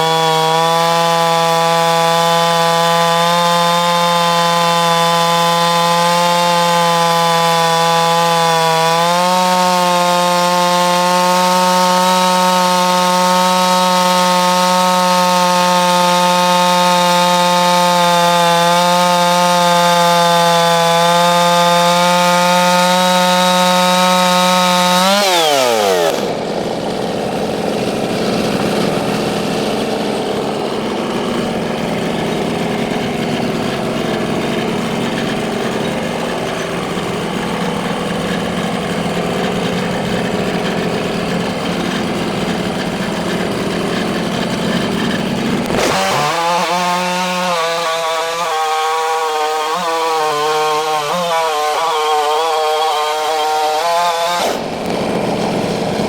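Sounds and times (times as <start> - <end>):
chainsaw cutting log: 0.0 - 56.0
chainsaw idling roughly: 0.0 - 56.0.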